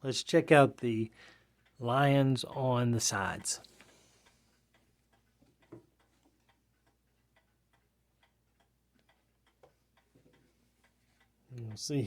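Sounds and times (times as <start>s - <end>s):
clock ticking: 0.1s - 12.0s
clock click: 1.6s - 12.0s.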